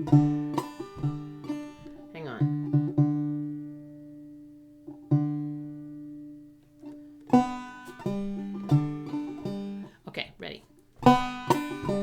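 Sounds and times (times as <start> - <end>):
banjo strings plucked and strummed: 0.0 - 12.0.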